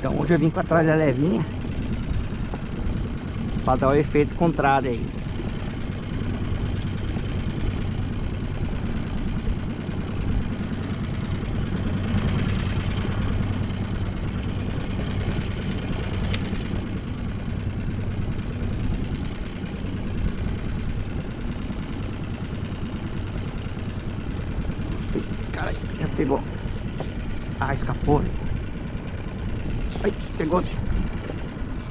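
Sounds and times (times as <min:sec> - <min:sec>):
boat engine idling: 0:00.0 - 0:31.9.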